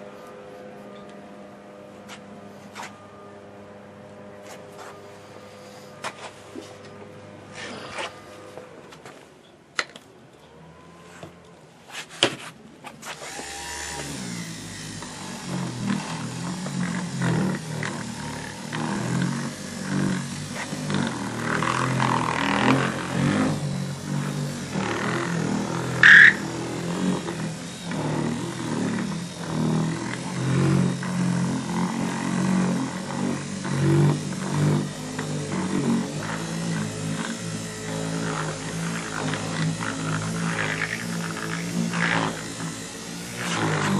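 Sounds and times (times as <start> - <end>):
electric buffer polishing: 0.0 - 8.8, 13.0 - 43.9.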